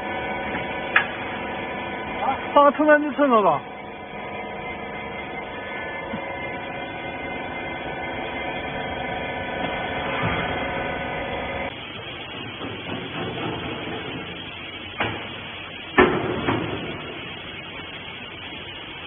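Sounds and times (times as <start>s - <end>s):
hydraulic pump motor humming: 0.0s - 19.0s.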